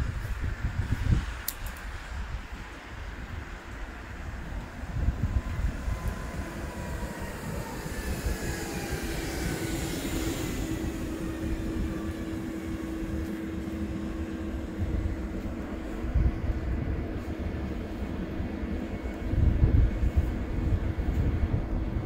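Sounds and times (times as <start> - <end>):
train electric hum: 0.0 - 22.0
train traction whine: 0.0 - 22.0.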